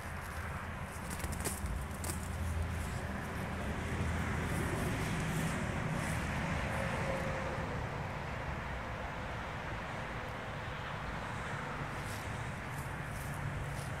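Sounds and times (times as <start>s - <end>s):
distant road traffic: 0.0s - 14.0s
wind: 0.0s - 14.0s.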